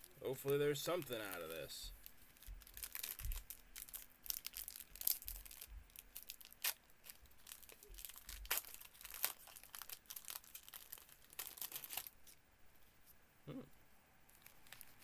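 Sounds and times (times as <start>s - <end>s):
wrapper tearing and crinkling: 0.4s - 12.4s, 14.3s - 15.0s.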